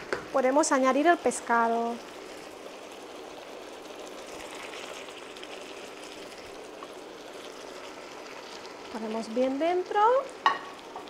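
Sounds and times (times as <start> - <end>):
sofrito sizzling in a frying pan: 0.0 - 11.0.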